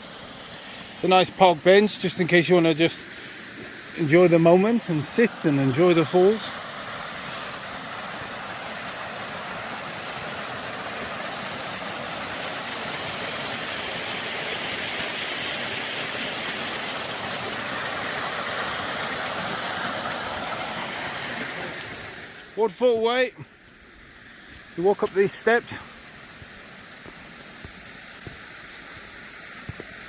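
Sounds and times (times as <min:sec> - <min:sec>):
waterfall rushing: 0:00.0 - 0:23.4, 0:24.0 - 0:30.0.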